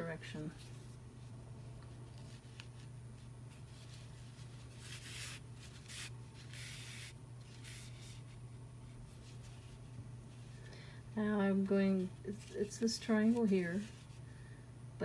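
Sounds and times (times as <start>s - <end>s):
steady low hum: 0.0s - 15.0s
yarn swishing and rubbing: 0.6s - 10.5s, 11.8s - 14.2s.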